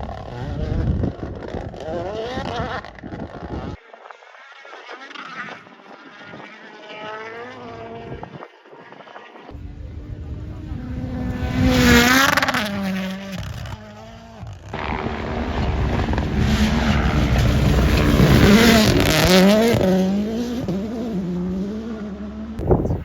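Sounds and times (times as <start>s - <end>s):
rally cars passing at speed: 0.0s - 23.0s.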